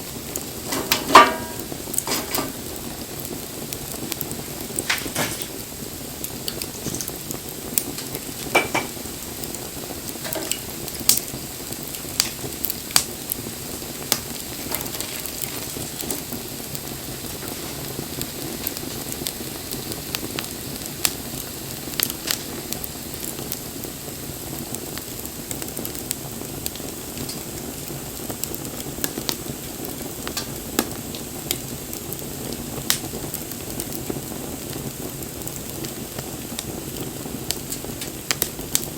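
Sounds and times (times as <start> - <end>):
sharp pops of fire: 0.0 - 38.9
wood fire crackling: 0.0 - 38.9.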